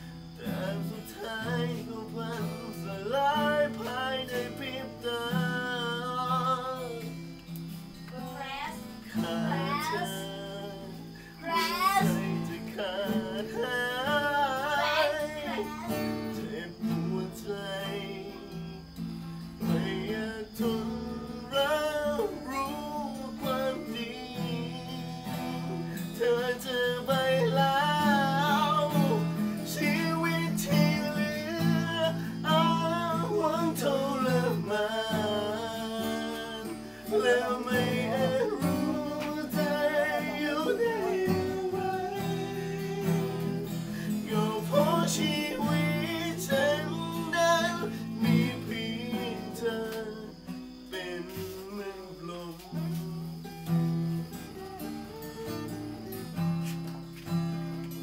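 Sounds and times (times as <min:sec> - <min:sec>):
person singing with vibrato: 0:00.0 - 0:07.3, 0:08.2 - 0:53.3, 0:54.3 - 0:56.8
acoustic guitar strumming: 0:00.0 - 0:58.0.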